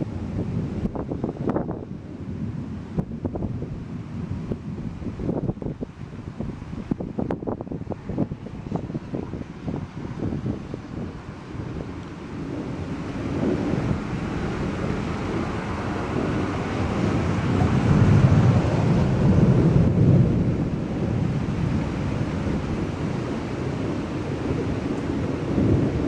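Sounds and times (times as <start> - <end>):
rolling thunder: 0.0 - 26.0.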